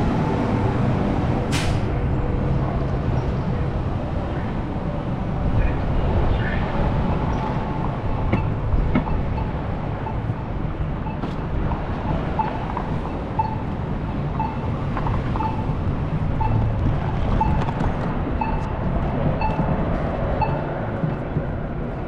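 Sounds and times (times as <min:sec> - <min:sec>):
low rumble of city traffic: 0:00.0 - 0:22.0.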